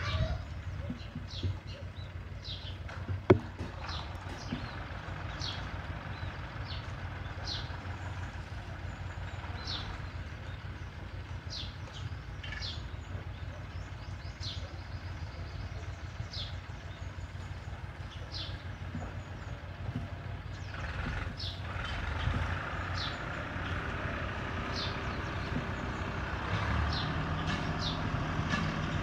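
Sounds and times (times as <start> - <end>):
small bird chirping: 0.0 - 26.2.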